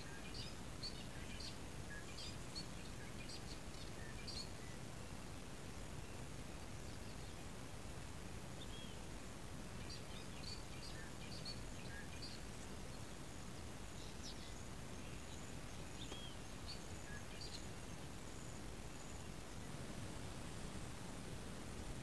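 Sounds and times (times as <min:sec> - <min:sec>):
faint bird chirps and calls: 0:00.0 - 0:21.2
open-air ambience: 0:00.0 - 0:22.0.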